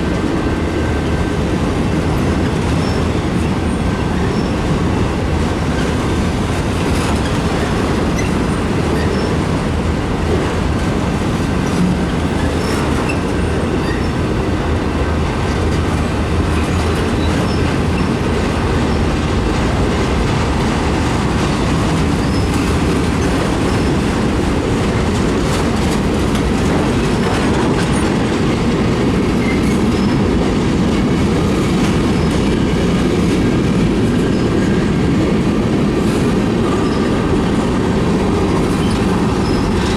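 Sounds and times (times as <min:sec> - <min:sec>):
freight train wheels rumbling: 0:00.0 - 0:39.9
wheels clicking over rail joints: 0:00.1 - 0:39.9.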